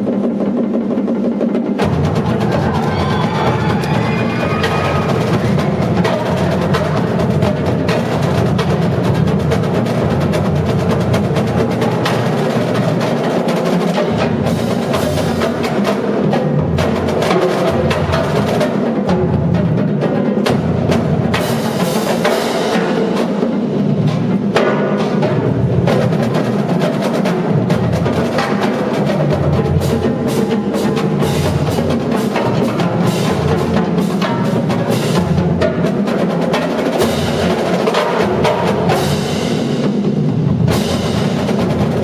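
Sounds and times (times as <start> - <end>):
snare drums rattling: 0.0 - 42.0.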